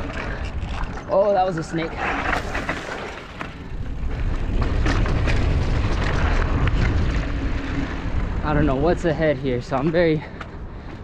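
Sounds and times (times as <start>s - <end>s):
bike rattling: 0.0s - 11.0s
wind and ground rumble: 0.0s - 11.0s.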